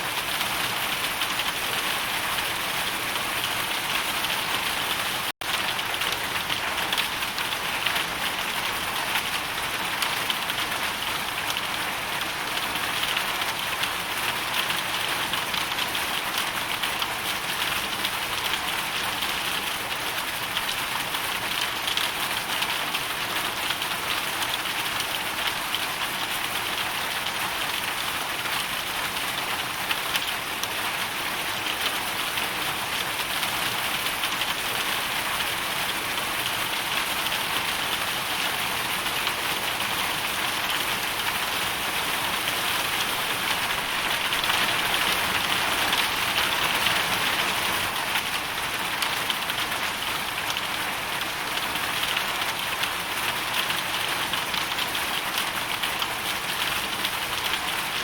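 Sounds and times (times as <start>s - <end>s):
hail and rain pelting hard surface: 0.0s - 58.0s.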